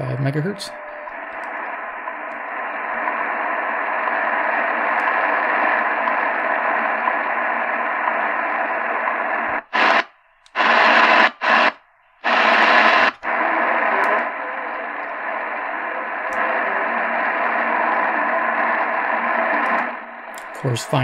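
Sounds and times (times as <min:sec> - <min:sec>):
shortwave radio static: 0:00.0 - 0:21.0.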